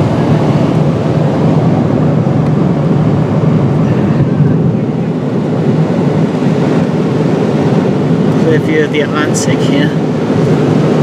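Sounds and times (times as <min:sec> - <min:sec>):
airplane cabin noise: 0:00.0 - 0:11.0.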